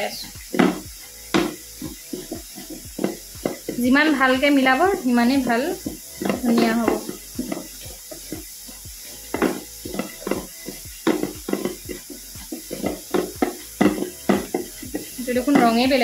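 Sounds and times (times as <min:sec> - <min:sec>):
stirrer scraping a container: 0:00.2 - 0:16.0.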